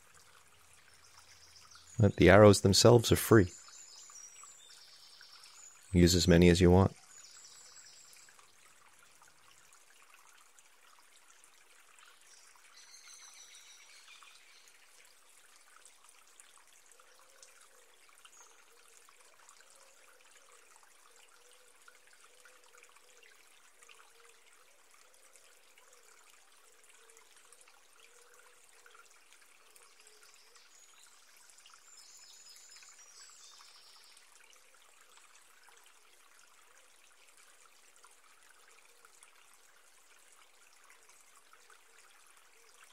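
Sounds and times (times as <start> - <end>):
trickle of running water: 0.0 - 42.9.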